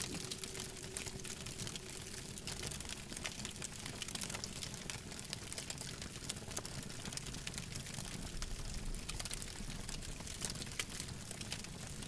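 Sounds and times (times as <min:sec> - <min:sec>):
campfire crackling and popping: 0:00.0 - 0:12.0
low rumble of burning wood: 0:00.0 - 0:12.0.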